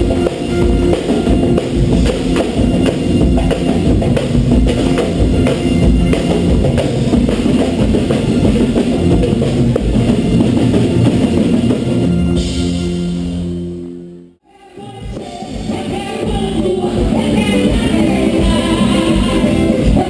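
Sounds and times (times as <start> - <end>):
drum kit driving beat: 0.0 - 13.8, 14.8 - 20.0
live band playing loud: 0.0 - 20.0.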